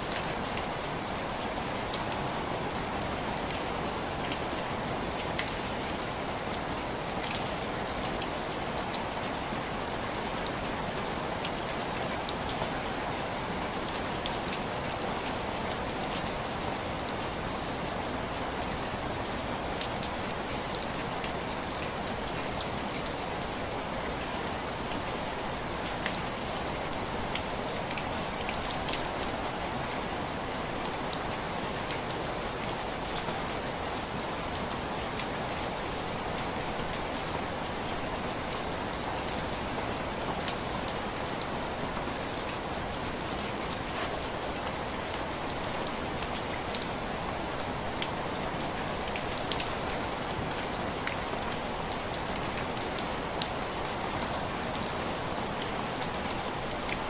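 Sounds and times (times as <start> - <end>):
rain on window glass: 0.1 - 57.0.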